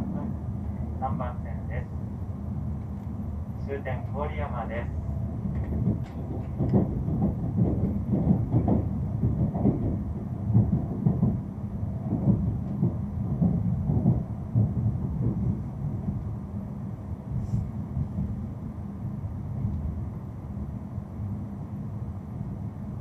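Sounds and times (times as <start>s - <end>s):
train cabin low rumble: 0.0s - 23.0s.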